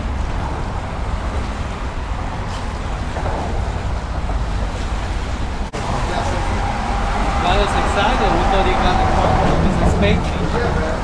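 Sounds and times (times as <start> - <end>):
water lapping: 0.0 - 11.0.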